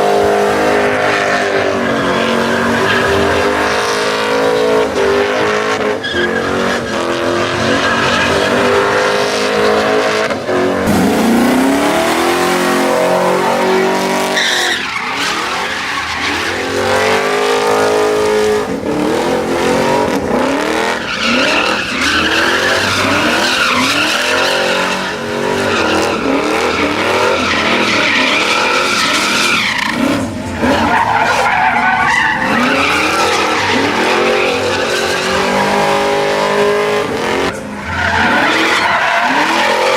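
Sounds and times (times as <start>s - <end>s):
tires squealing on pavement: 0.0s - 39.9s
truck engines revving: 0.0s - 39.9s.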